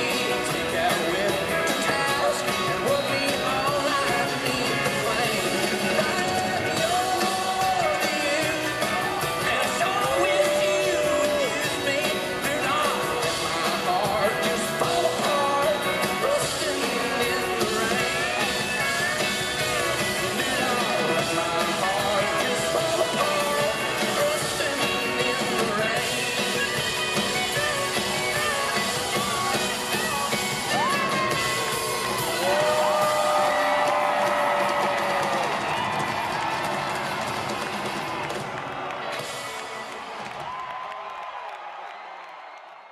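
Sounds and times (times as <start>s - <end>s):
person singing: 0.0s - 35.6s
electric guitar: 0.0s - 40.8s
live country-rock band: 0.0s - 41.3s
audience whooping and yelling: 0.0s - 42.9s.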